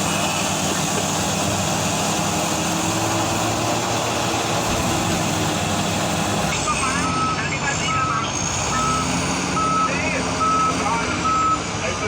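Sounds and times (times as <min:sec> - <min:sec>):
heavy diesel engines running: 0:00.0 - 0:12.0.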